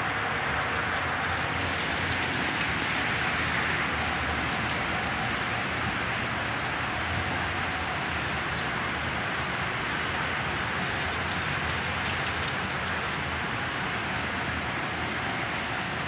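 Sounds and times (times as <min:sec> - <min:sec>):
heavy rain hiss: 0:00.0 - 0:16.0.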